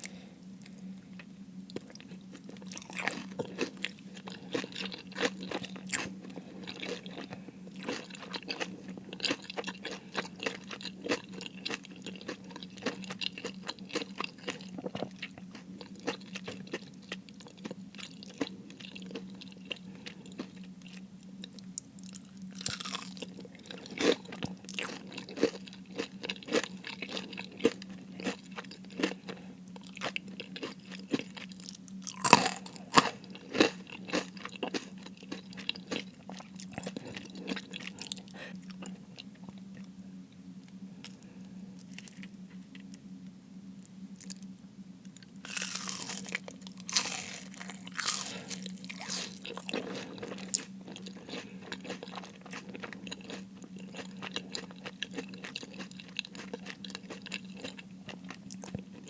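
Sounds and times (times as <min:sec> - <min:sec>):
faint steady hum: 0:00.0 - 0:59.0
crunching fried food: 0:01.2 - 0:39.4, 0:45.1 - 0:59.0
chewing: 0:01.7 - 0:39.9, 0:45.5 - 0:59.0.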